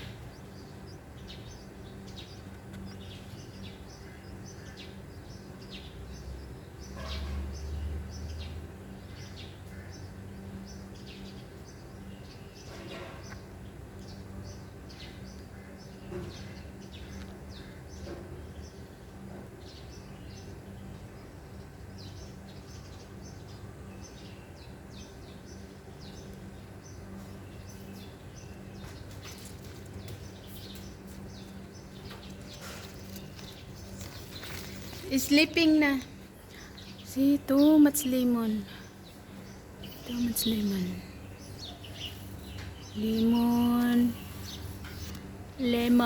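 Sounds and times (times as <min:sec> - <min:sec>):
small birds chirping: 0:00.0 - 0:46.0
steady low hum: 0:00.0 - 0:46.0.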